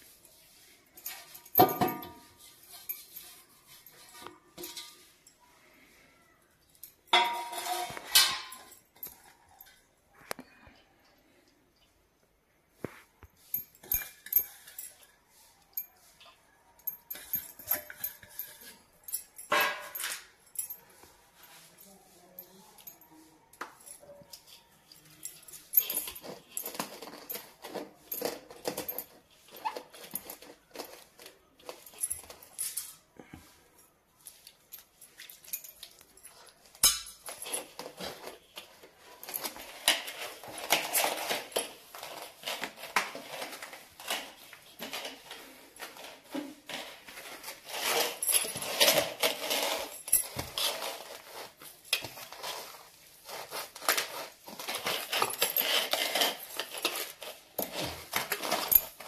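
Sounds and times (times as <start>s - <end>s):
metal bangles clinking: 0.0s - 10.4s, 13.2s - 59.0s.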